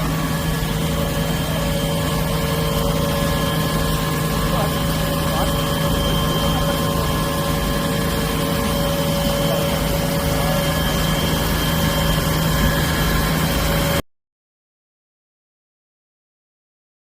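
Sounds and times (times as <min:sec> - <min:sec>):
fire truck pump engine drone: 0:00.0 - 0:14.0
pump whine: 0:00.0 - 0:14.0.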